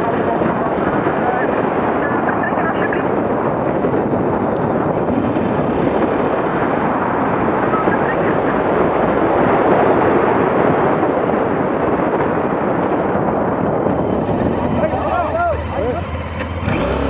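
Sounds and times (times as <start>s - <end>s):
motorcycle running: 0.0s - 17.0s
wind rush on microphone: 0.0s - 17.0s.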